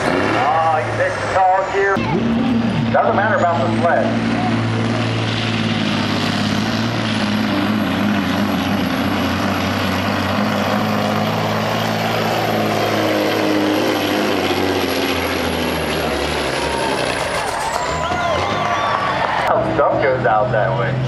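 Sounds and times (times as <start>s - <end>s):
diesel engine under full load: 0.0s - 21.0s.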